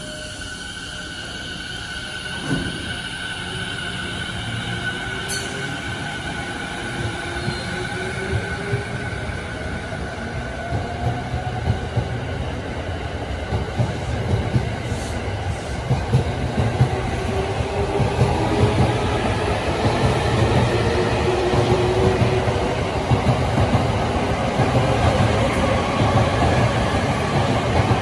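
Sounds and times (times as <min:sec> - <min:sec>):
train rumbling with wheel clatter: 0:02.3 - 0:03.1, 0:04.4 - 0:28.0.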